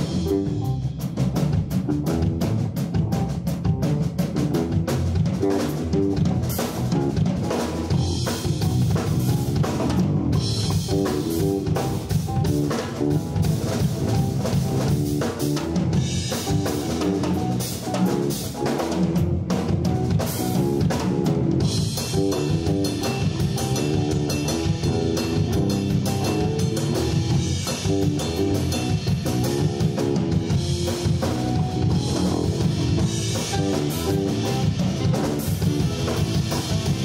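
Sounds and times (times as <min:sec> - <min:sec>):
drum kit: 0:00.0 - 0:37.0
electric bass line: 0:00.0 - 0:37.0
jazz combo playing: 0:00.0 - 0:37.0.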